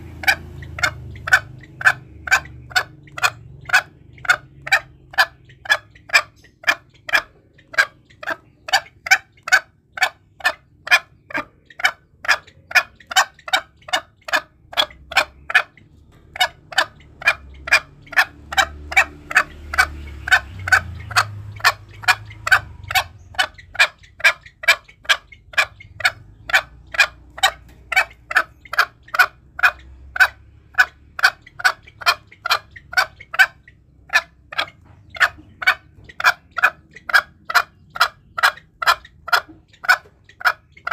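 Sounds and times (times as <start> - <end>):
junglefowl calling: 0.0 - 40.9.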